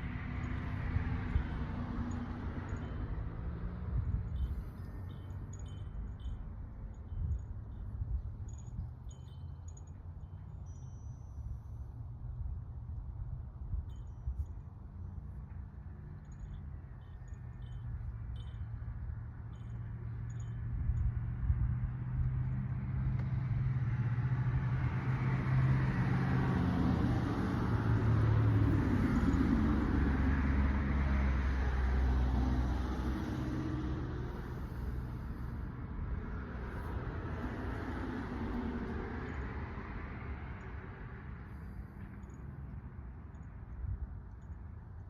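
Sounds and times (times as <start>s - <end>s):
road noise: 0.0s - 45.0s
vehicle engine rumble: 0.0s - 45.0s.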